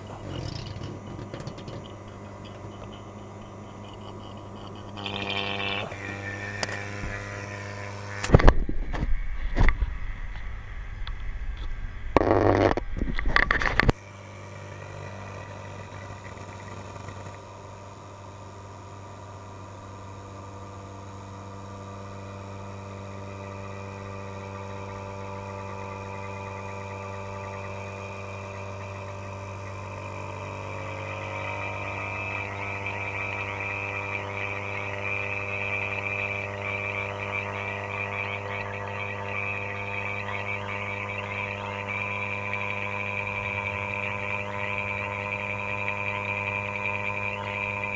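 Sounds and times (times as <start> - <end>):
vacuum pump humming: 0.0 - 47.9.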